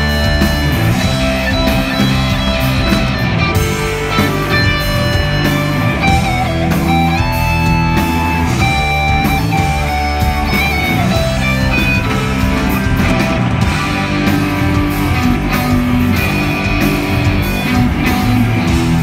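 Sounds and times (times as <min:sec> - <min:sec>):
lead guitar holding long notes: 0:00.0 - 0:19.0
live rock band playing: 0:00.0 - 0:19.0.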